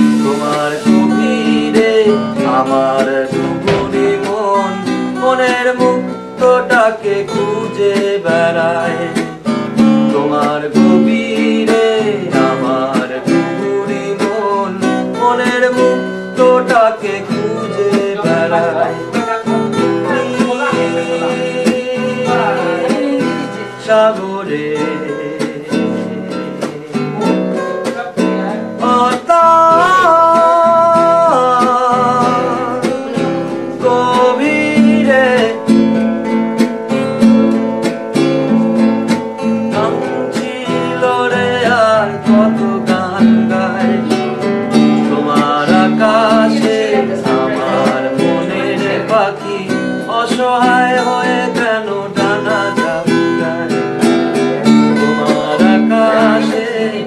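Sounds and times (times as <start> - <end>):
person singing: 0.0 - 57.0
strummed acoustic guitar: 0.0 - 57.0.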